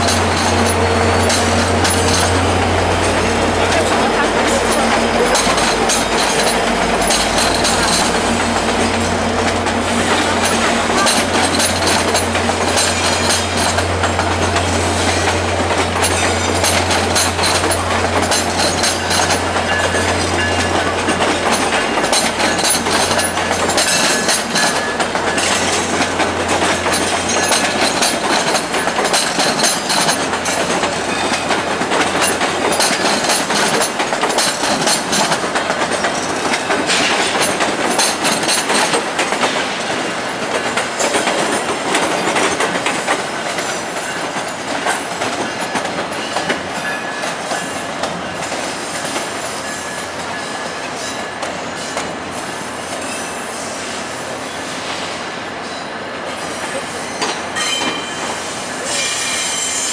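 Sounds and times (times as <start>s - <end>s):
train wheels clattering over track: 0.0s - 59.9s.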